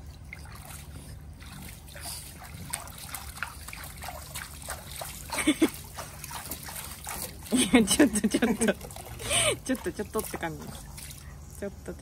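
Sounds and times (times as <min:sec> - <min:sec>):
water splashing and dripping: 0:00.0 - 0:11.7.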